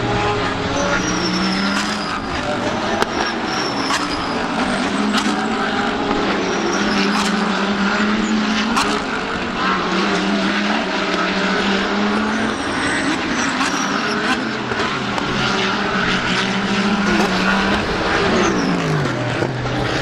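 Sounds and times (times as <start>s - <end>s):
race car engines running hard: 0.0s - 20.0s.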